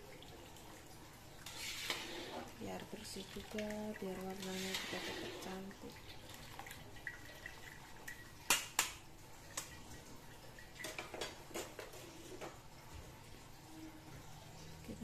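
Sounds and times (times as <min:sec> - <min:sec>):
water dripping: 0:00.0 - 0:15.0.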